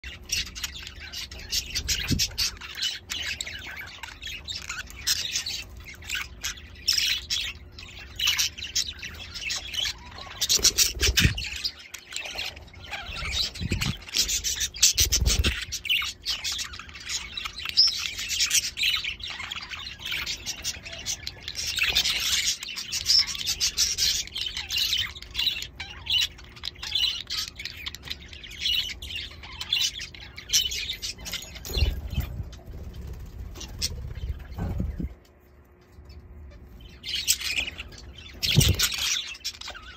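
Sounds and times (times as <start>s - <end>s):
budgerigars chirping: 0.0s - 35.2s, 36.0s - 39.9s.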